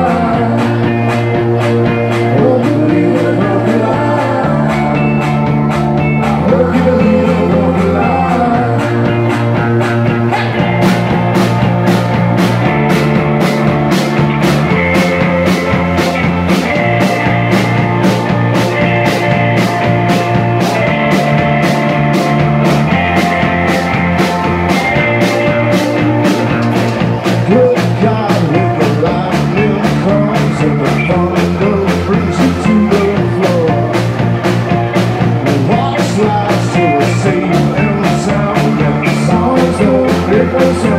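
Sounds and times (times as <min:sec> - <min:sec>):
bass guitar notes: 0:00.0 - 0:40.9
rock band playing live: 0:00.0 - 0:40.9.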